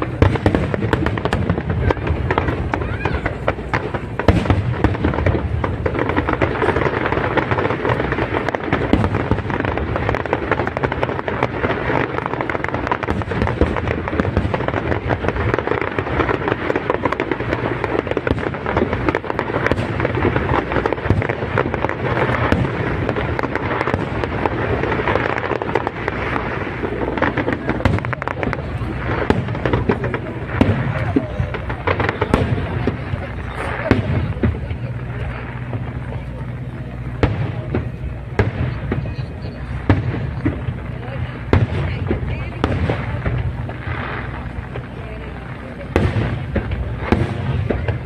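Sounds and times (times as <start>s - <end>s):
fireworks bangs and crackling: 0.0s - 48.0s.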